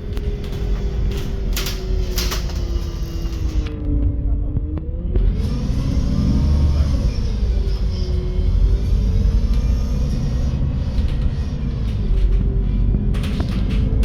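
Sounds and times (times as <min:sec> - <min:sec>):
bus engine rumbling: 0:00.0 - 0:14.0
drivetrain whine: 0:00.0 - 0:14.0.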